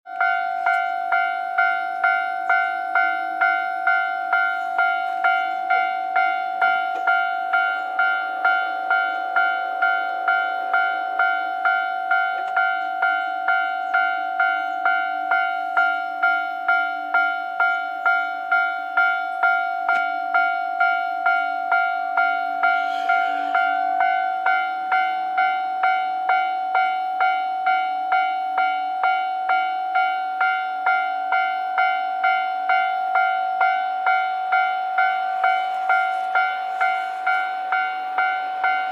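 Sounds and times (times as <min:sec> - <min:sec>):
level crossing warning bell: 0:00.1 - 0:38.9.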